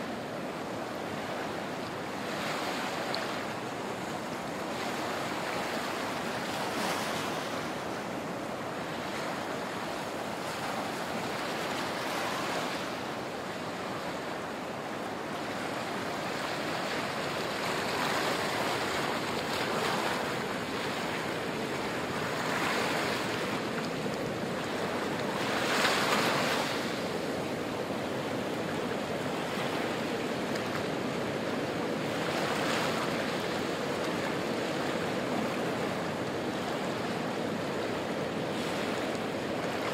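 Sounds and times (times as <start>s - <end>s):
small waves breaking on a beach: 0.0s - 39.9s.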